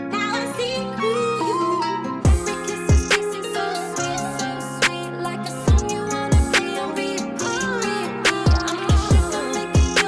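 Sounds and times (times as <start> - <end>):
plucked-string instrumental music: 0.0 - 10.0.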